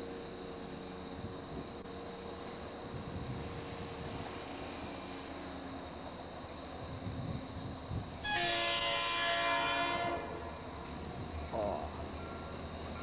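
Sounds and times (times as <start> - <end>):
distant diesel locomotives droning: 0.0 - 13.0.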